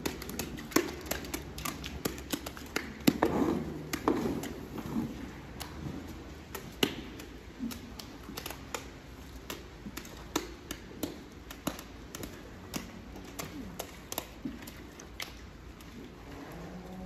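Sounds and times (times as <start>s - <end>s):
low barn hum: 0.0s - 17.0s.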